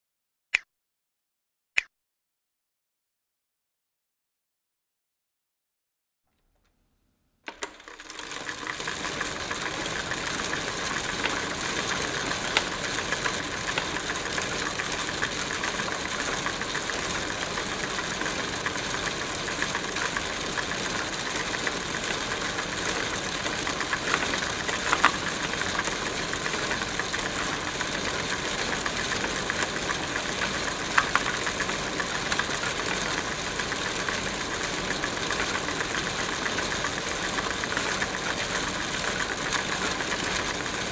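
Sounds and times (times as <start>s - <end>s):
bicycle clicks: 7.4s - 40.9s
bicycle whirring and rattling: 7.5s - 40.9s.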